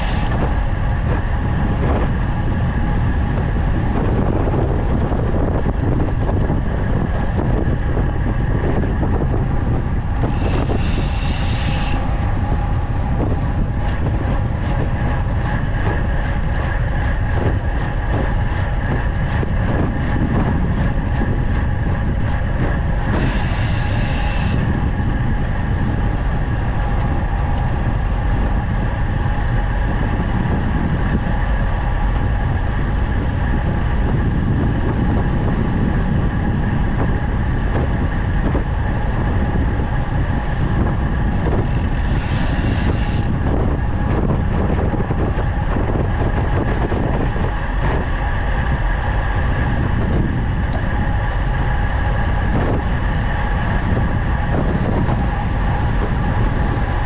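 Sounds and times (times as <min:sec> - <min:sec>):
tyre and road noise: 0:00.0 - 0:57.0
wind rushing over microphone: 0:00.0 - 0:57.0.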